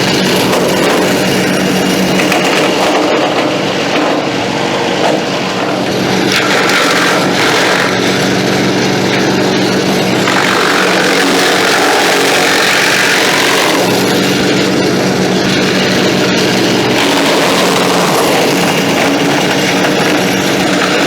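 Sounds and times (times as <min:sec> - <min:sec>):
material shredding: 0:00.0 - 0:21.0
wood chipper engine running: 0:00.0 - 0:21.0.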